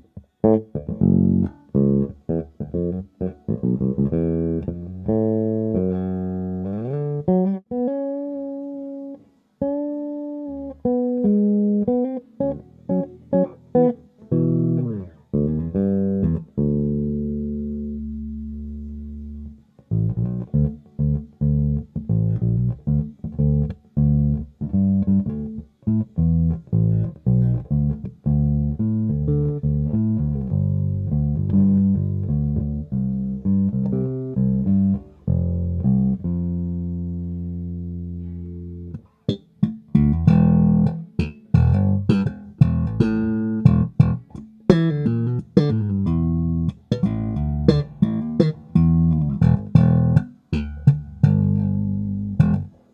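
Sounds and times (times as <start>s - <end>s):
electric bass plucked notes: 0.0s - 52.9s.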